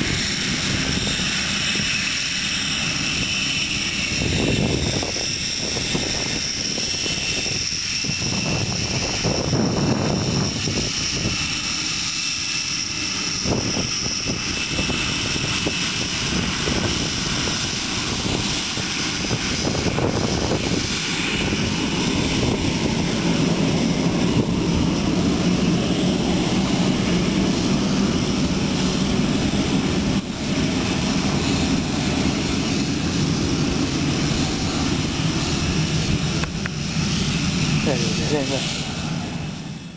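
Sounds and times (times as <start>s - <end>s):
aircraft engine running: 0.0s - 39.9s.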